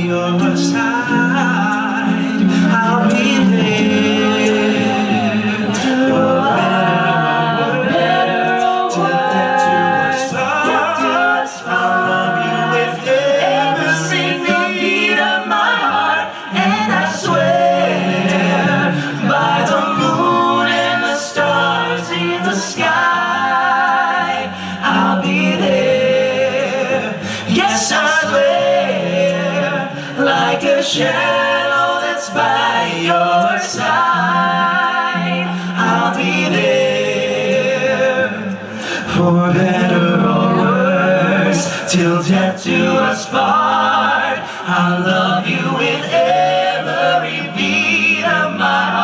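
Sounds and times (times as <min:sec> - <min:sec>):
male a cappella group singing: 0:00.0 - 0:49.0.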